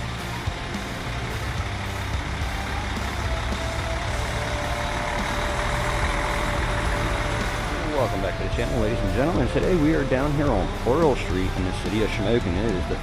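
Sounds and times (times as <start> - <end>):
heavy vehicle engine running: 0.0 - 13.0
steady whine: 0.0 - 13.0.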